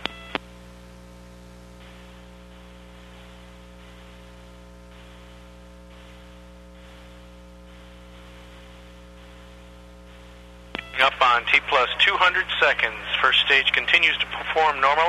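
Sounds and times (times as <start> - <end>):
electrical hum: 0.0 - 15.0
static hiss: 0.0 - 15.0.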